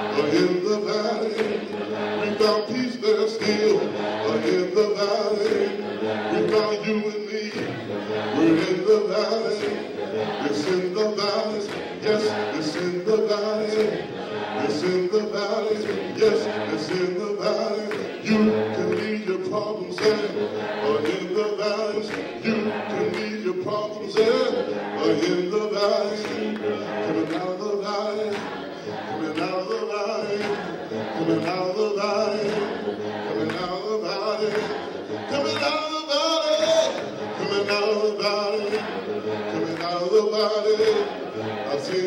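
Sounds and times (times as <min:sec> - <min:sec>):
man singing gospel through speakers: 0:00.0 - 0:42.0.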